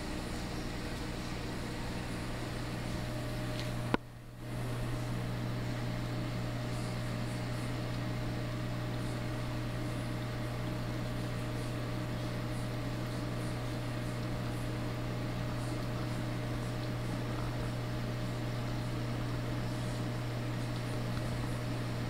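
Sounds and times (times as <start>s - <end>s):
aquarium pumps humming: 0.0s - 22.0s.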